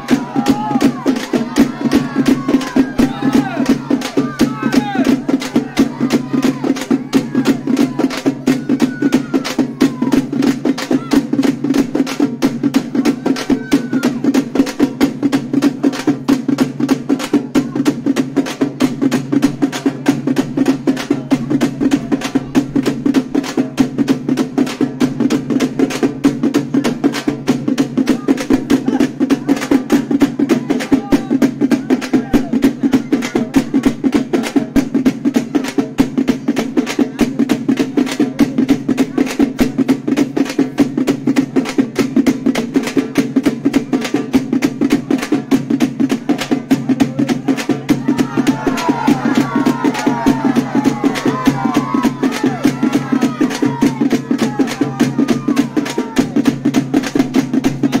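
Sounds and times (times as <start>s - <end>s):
drums beaten in fast rhythm: 0.0s - 58.0s.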